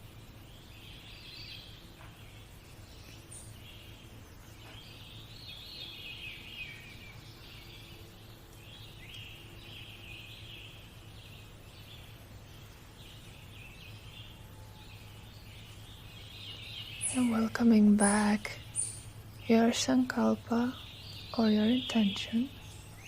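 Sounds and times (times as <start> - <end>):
birds chirping and trilling: 0.0 - 23.0
faint low hum: 0.0 - 23.0.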